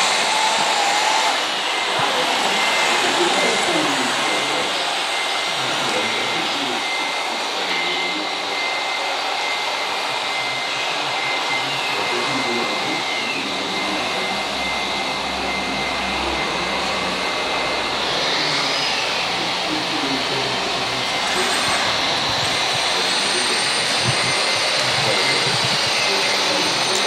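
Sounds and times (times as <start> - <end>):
hydraulic pump whirring: 0.0 - 27.0
thin high whine: 0.0 - 27.0.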